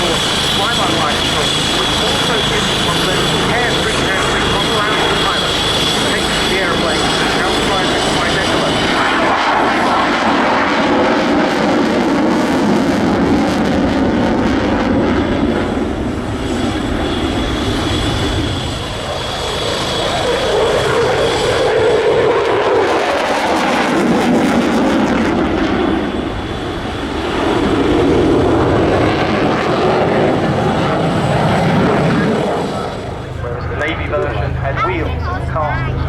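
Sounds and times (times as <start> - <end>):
aircraft engine in flight: 0.0 - 36.0.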